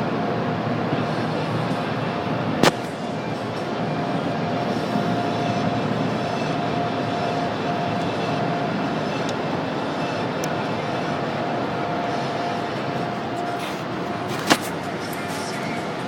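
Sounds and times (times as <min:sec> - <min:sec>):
air-dryer blowers rushing: 0:00.0 - 0:16.0
faint steady whine: 0:00.0 - 0:16.0.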